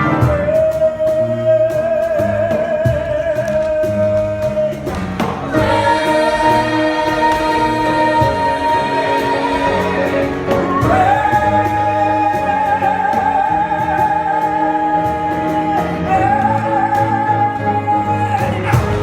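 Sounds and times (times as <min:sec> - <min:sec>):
musical accompaniment: 0:00.0 - 0:19.0.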